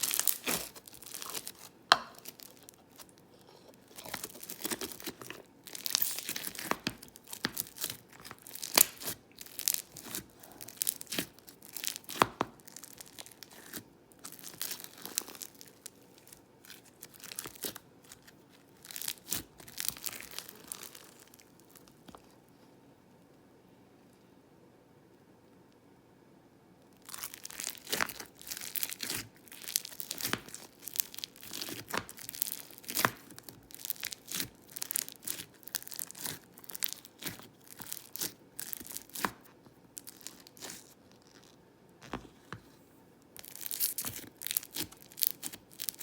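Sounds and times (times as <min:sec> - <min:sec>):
crunchy slime crackling and popping: 0:00.0 - 0:22.4, 0:26.9 - 0:42.3, 0:43.2 - 0:46.0.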